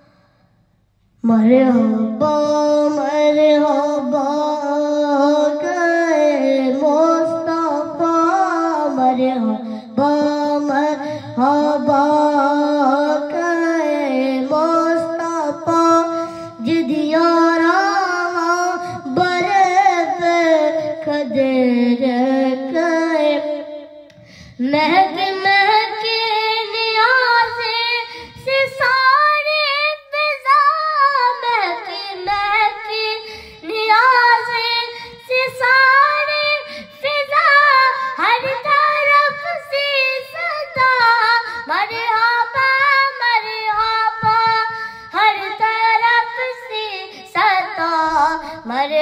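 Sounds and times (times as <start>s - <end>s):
boy singing solo: 1.2s - 49.0s.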